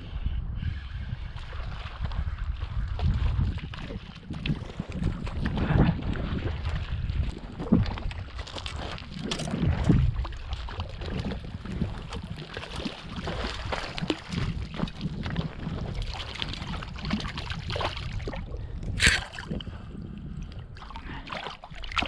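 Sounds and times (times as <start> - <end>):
water sloshing and lapping: 0.8 - 22.0.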